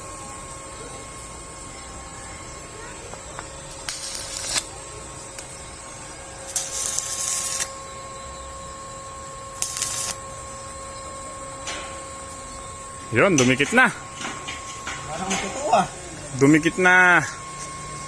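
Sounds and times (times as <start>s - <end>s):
arc welder crackling and hissing: 0.0s - 18.0s
faint steady whine: 0.0s - 18.0s.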